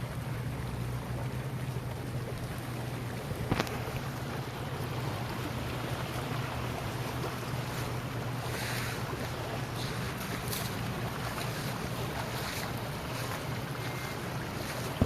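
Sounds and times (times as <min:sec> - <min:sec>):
low hum: 0:00.0 - 0:15.0
rushing water: 0:00.0 - 0:15.0.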